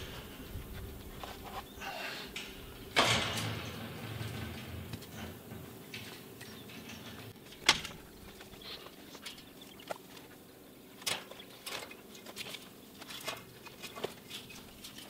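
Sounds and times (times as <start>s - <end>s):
faint rustles and ticks: 0.0s - 15.0s.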